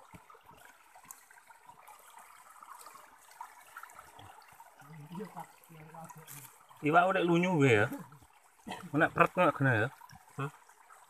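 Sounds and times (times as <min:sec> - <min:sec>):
stream trickling: 0:00.0 - 0:11.0.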